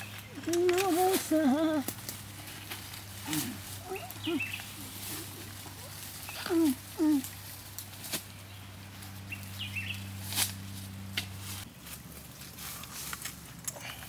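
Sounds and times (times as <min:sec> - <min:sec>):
footsteps in dry leaves: 0:00.0 - 0:14.0
low steady hum: 0:00.0 - 0:14.0.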